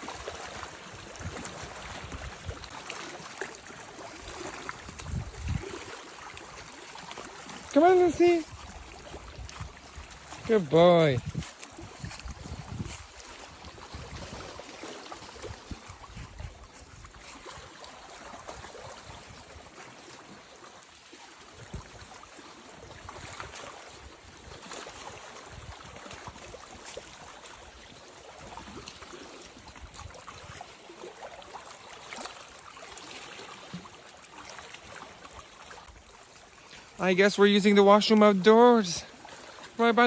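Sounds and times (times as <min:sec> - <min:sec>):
low water rumbles: 0:00.0 - 0:40.0
water hissing along shore: 0:00.0 - 0:40.0.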